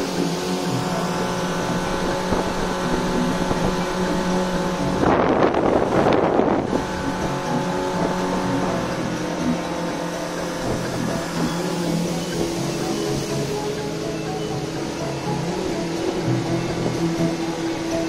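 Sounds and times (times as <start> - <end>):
motorboat engine running: 0.0 - 18.0.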